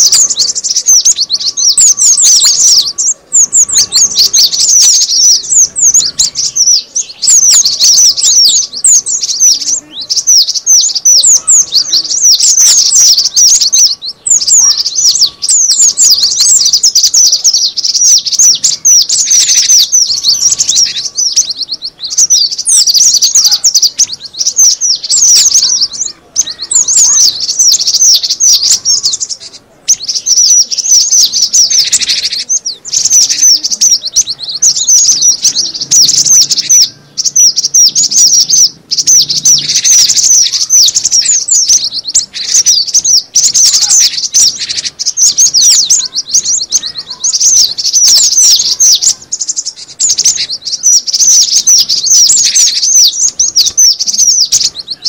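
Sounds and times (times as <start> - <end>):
high-pitched bird chattering: 0.0 - 55.0.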